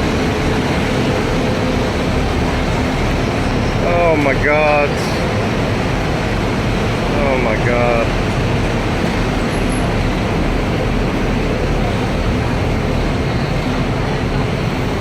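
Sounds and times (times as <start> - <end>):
heavy road traffic roar: 0.0 - 15.0.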